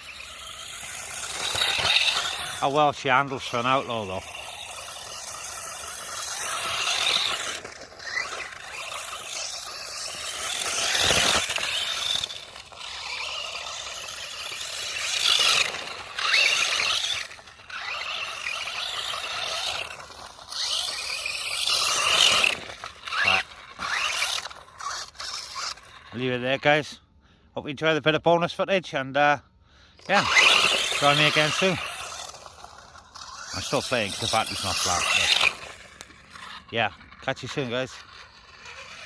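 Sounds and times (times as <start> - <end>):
tyres scraping over ground: 0.0 - 26.9, 30.0 - 39.0
rc car motor whining: 0.0 - 27.0, 29.9 - 39.0.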